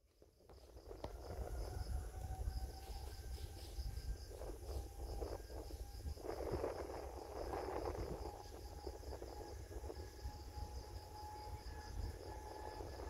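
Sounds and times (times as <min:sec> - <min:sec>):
crickets chirping: 0:00.0 - 0:13.0
distant jet engine rumble: 0:00.0 - 0:13.0.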